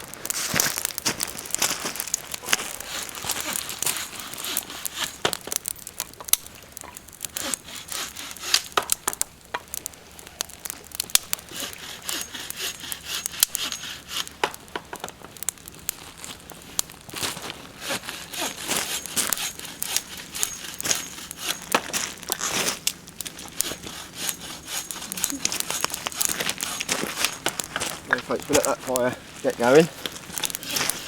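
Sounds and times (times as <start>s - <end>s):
campfire crackling wood: 0.0s - 31.0s
fire hissing: 0.0s - 31.0s.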